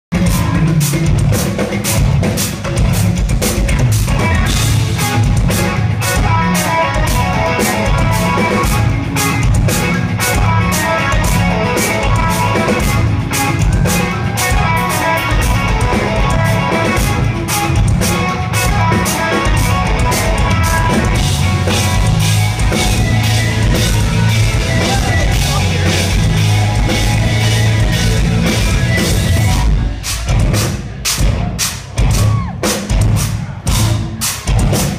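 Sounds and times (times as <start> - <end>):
fast dense drumming: 0.1 - 18.3, 19.0 - 34.9
heavy bass: 0.1 - 34.9
live metal band playing: 0.1 - 34.9
electric guitars: 0.2 - 31.0.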